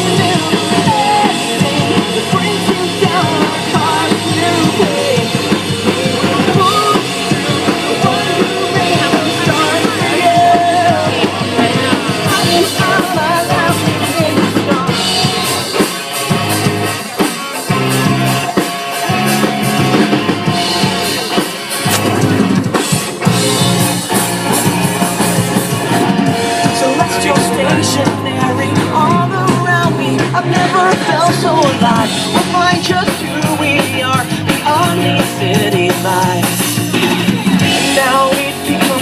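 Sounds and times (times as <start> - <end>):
rock band music: 0.0 - 39.0.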